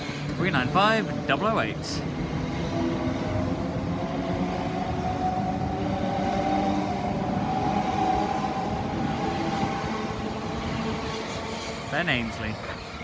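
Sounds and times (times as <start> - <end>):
electric train motor whine: 0.0 - 13.0
wheels rumbling on rails: 0.0 - 13.0.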